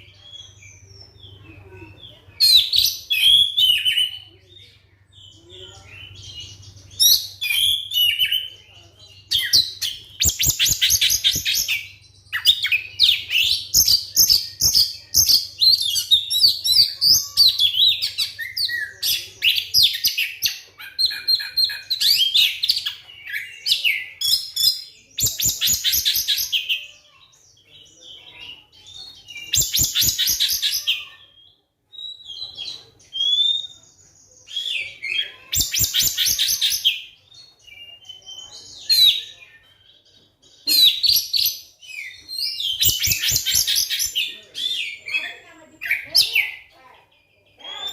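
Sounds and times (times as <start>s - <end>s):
songbird singing whistles and chatter: 0.0s - 47.9s.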